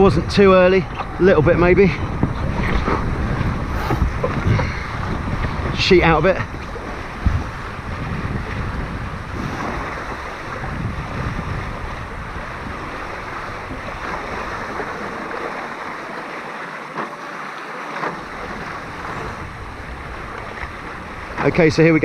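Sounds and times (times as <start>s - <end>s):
wind on microphone: 0.0s - 16.3s, 18.1s - 22.0s
water rushing past hulls: 0.0s - 22.0s.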